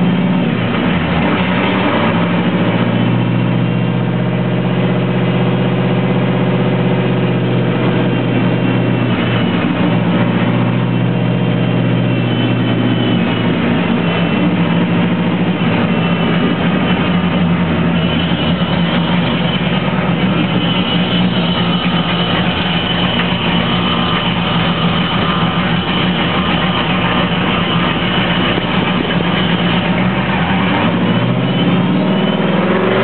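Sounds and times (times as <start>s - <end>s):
car engine running from cabin: 0.0s - 33.0s.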